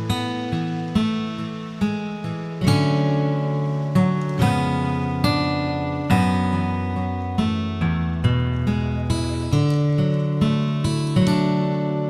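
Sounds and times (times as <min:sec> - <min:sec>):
acoustic guitar plucking a melody: 0:00.0 - 0:12.0.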